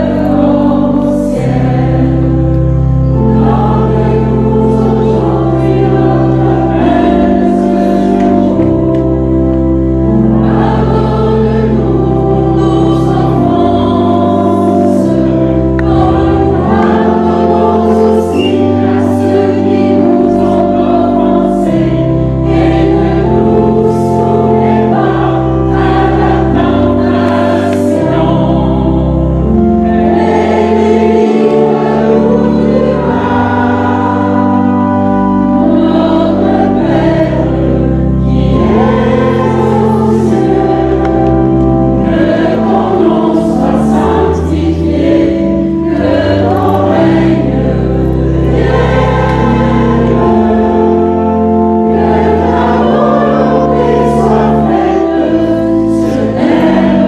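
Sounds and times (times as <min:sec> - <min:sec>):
choir singing a hymn: 0:00.0 - 0:57.0
instrumental accompaniment: 0:00.0 - 0:57.0.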